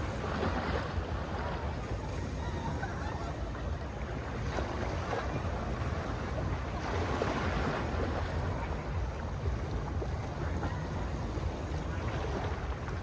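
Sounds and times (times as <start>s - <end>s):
sea waves washing onto shore: 0.0s - 13.0s
wind rumbling on microphone: 0.0s - 13.0s.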